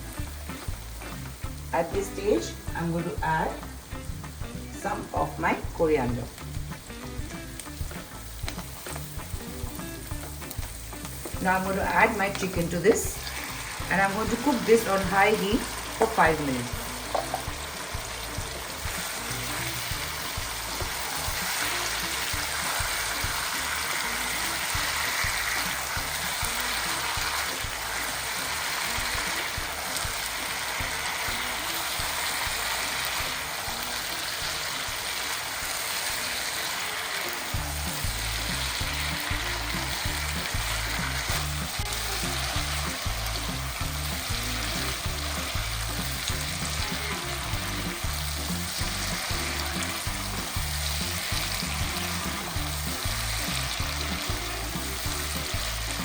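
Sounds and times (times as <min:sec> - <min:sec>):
background music: 0:00.0 - 0:56.0
chicken sizzling in a pan: 0:00.0 - 0:56.0.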